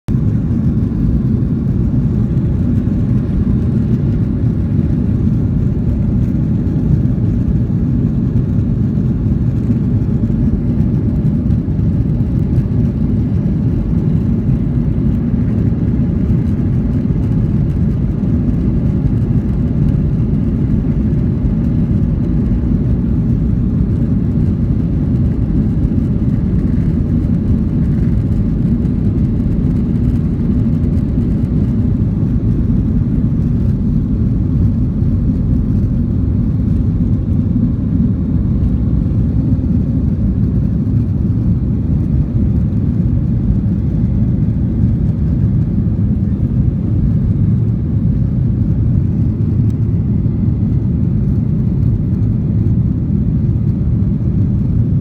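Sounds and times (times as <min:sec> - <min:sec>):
jet engines rumbling in cabin: 0:00.1 - 0:55.0.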